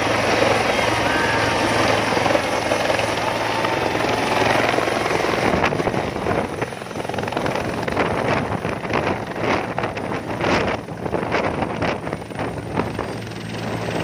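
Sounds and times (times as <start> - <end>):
rotor downwash buffeting microphone: 0.0 - 13.5
helicopter rotor and turbine: 0.0 - 14.0.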